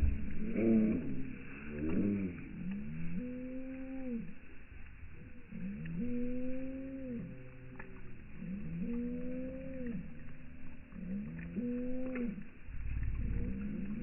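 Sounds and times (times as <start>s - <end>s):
low rumble: 0.0s - 14.0s
slowed deep bird calls: 0.0s - 14.0s.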